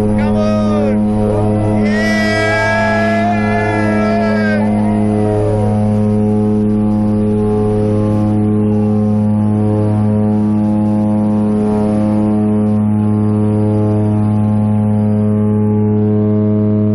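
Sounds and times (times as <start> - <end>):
turboprop airplane engine drone: 0.0 - 16.9.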